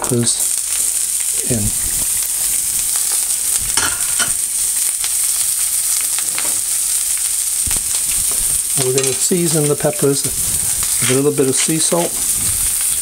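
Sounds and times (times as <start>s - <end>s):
peppers sizzling in oil: 0.0s - 13.0s.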